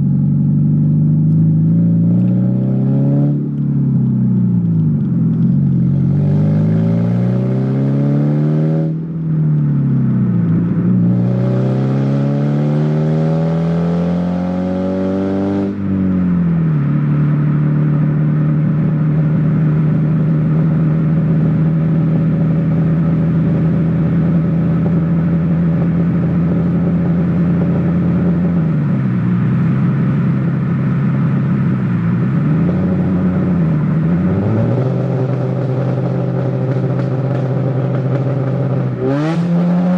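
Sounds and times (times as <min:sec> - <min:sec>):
loud car engine revving: 0:00.0 - 0:04.5, 0:05.3 - 0:09.2, 0:09.8 - 0:39.9.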